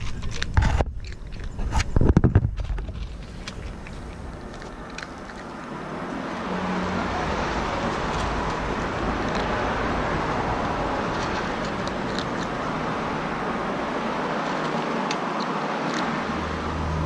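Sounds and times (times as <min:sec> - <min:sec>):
cat chewing dry kibble: 0:00.0 - 0:16.4
vehicle engine and road noise: 0:00.0 - 0:17.0.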